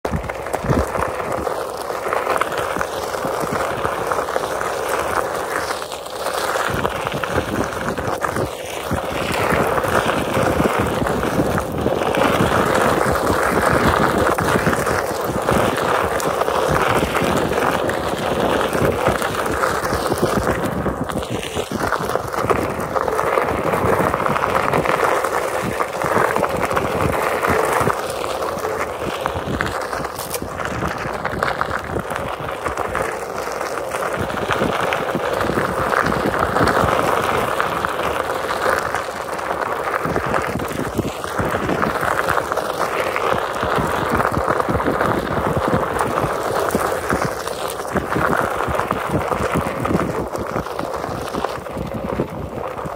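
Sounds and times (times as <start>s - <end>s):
tyre crunching on gravel trail: 0.0s - 52.9s.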